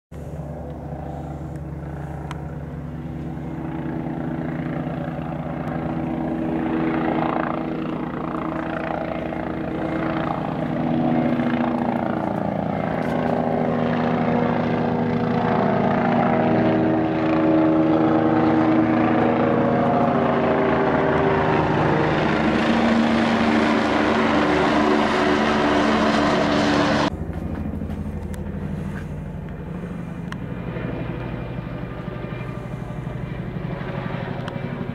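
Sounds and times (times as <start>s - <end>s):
faint drone: 0.1s - 34.9s
helicopter flying over: 0.2s - 34.9s.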